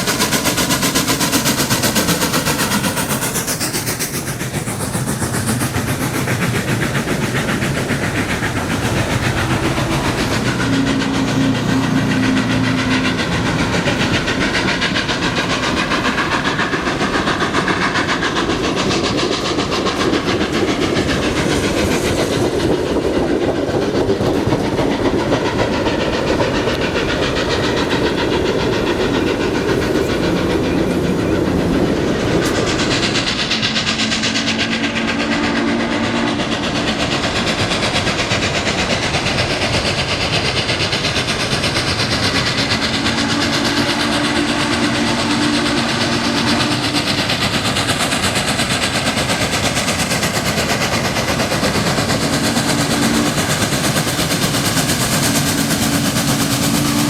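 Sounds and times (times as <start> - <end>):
train wheels clattering: 0.0 - 57.0.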